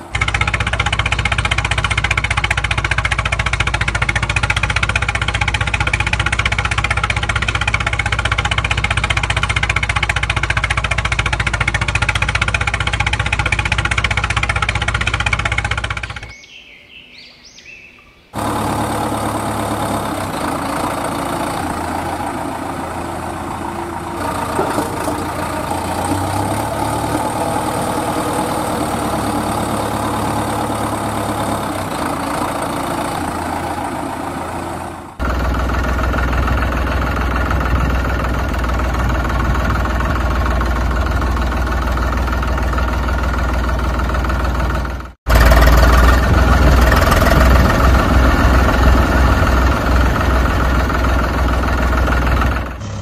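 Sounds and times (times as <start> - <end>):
vehicle engine idling: 0.0 - 16.3, 18.4 - 53.0.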